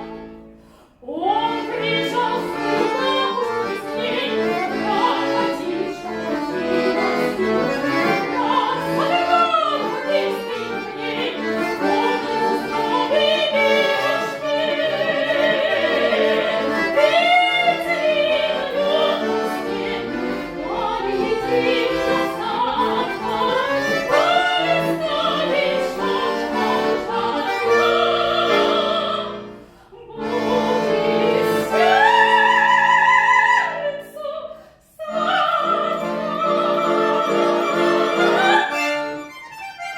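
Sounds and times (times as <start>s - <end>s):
accordion holding chords: 0.0s - 39.9s
classical singer with vibrato: 0.0s - 39.9s.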